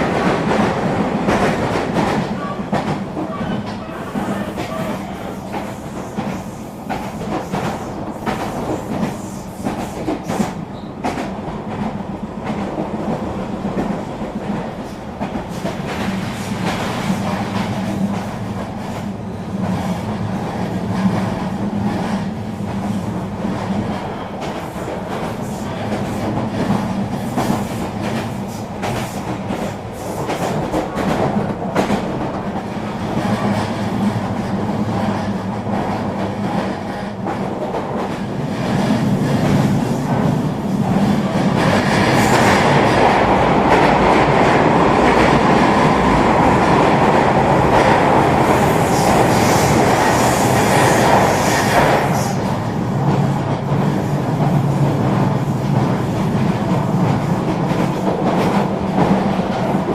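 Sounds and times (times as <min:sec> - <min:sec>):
train rumble with hum: 0:00.0 - 0:59.9.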